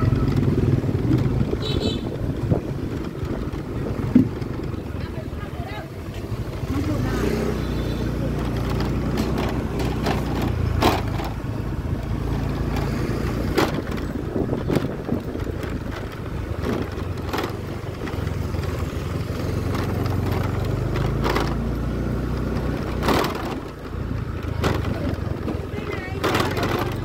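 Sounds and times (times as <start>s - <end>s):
sharp knocks and rattles: 0.0s - 5.3s, 5.9s - 27.0s
motor scooter engine running: 0.0s - 27.0s.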